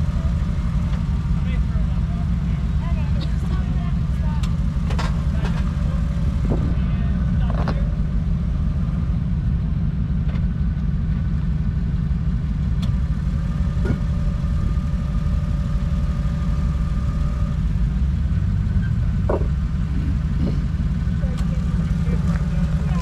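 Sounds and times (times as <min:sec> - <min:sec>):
engine idling low rumble: 0:00.0 - 0:23.0.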